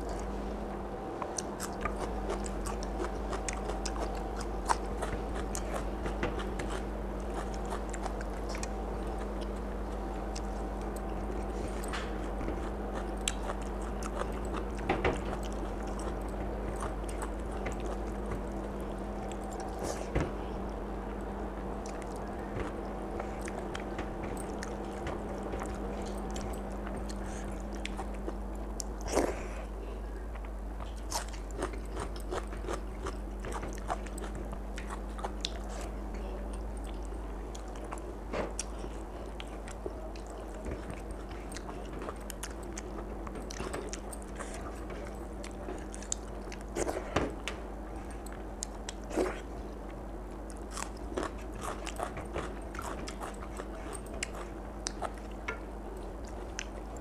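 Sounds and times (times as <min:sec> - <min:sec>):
person chewing and crunching food: 0:00.0 - 0:57.0
steady low hum: 0:00.0 - 0:57.0.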